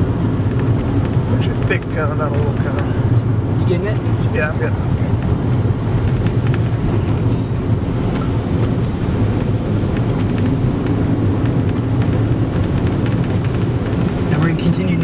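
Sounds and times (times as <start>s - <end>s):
car rumble from inside cabin: 0.0s - 15.0s.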